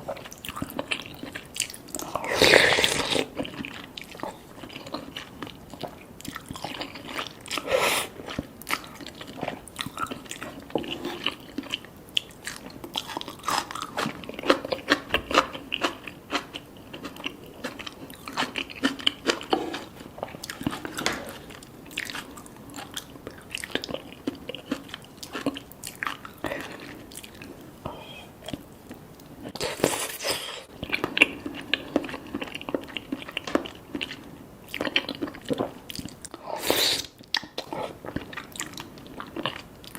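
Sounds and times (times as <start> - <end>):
chewing and biting food: 0.0 - 27.6, 28.4 - 39.9.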